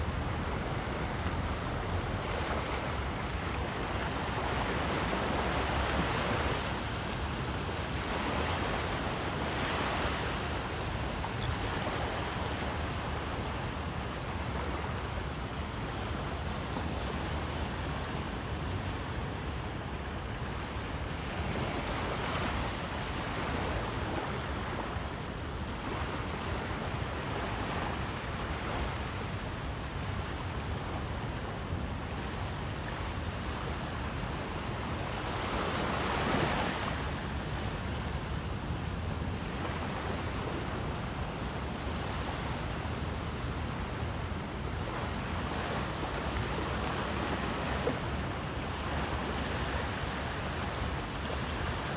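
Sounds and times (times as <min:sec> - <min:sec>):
surf washing ashore: 0:00.0 - 0:51.9.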